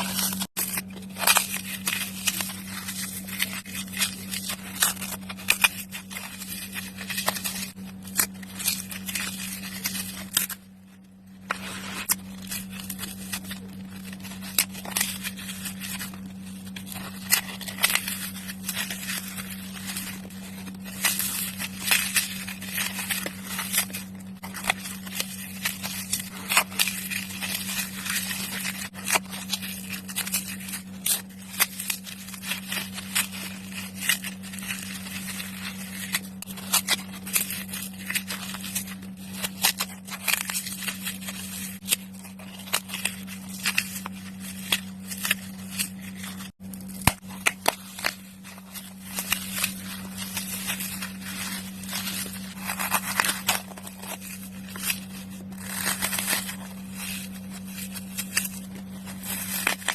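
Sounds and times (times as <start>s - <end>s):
foam crushing crackle: 0.0s - 59.9s
steady low hum: 0.0s - 59.9s.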